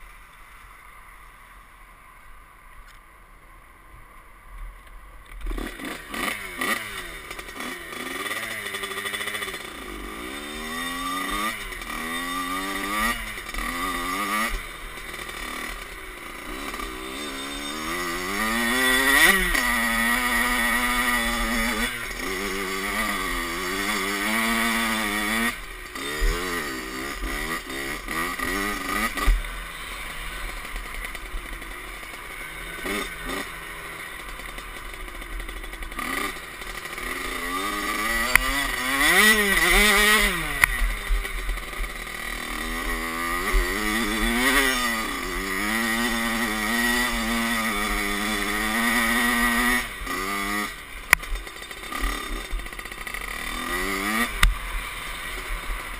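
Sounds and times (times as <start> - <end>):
dirt bike engine revving: 5.3 - 55.9.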